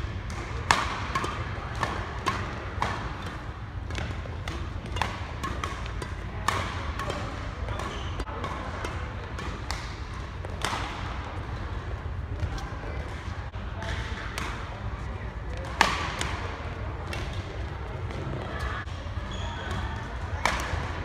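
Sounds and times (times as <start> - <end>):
rackets hitting shuttlecock: 0.0 - 21.0.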